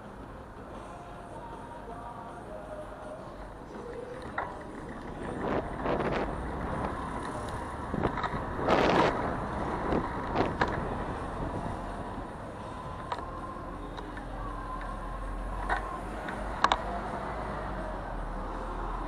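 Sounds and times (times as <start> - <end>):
street traffic: 0.0 - 19.0
loud rush of noise: 3.4 - 19.0.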